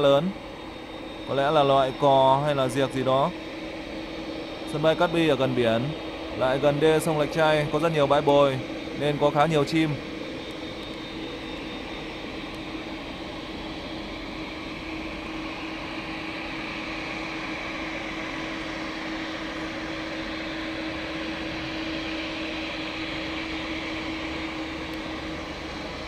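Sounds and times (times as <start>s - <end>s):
jet engines whining at taxi: 0.0s - 26.0s.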